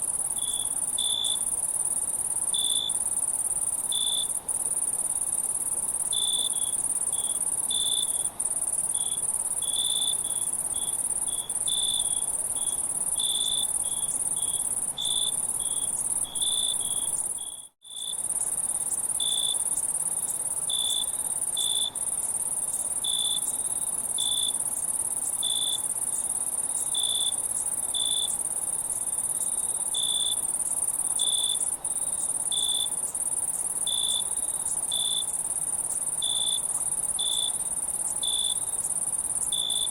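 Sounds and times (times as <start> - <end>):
cricket-like chirps: 0.0 - 39.9
high-pitched insect trill: 0.0 - 39.9.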